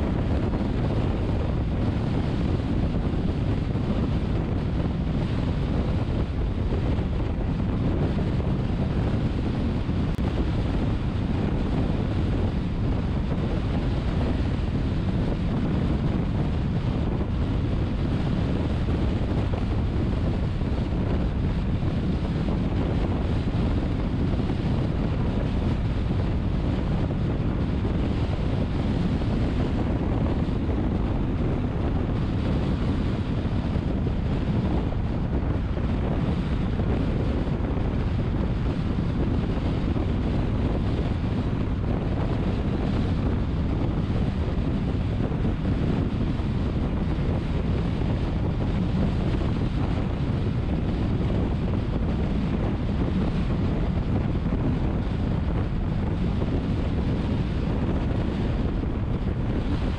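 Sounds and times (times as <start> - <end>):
car road and wind noise: 0.0 - 59.9
wind rumbling on microphone: 0.0 - 59.9.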